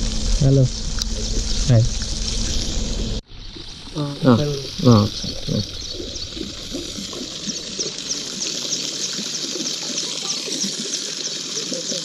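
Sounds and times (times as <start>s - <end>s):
water gushing into a pond: 0.0s - 12.0s.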